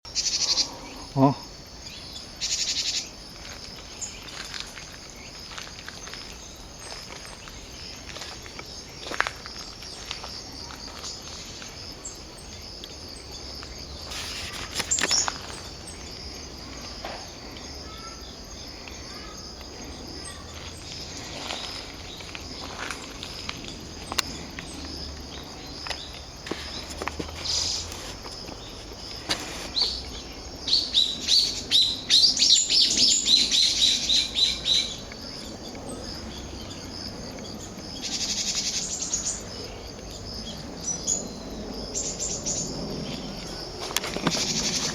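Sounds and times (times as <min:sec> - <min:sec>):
high-pitched insect chorus: 0:00.1 - 0:44.9.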